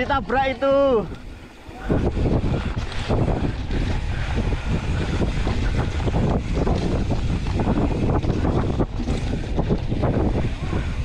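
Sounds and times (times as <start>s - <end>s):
mountain bike rumbling and rattling: 0.0s - 11.0s
wind buffeting microphone: 0.0s - 11.0s.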